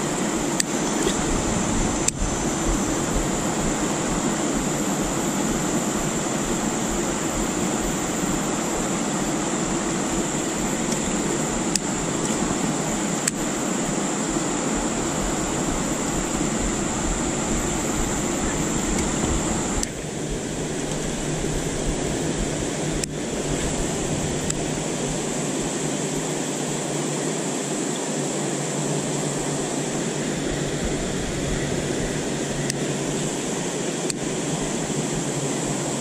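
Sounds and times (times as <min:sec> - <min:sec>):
high-pitched hum: 0:00.0 - 0:36.0.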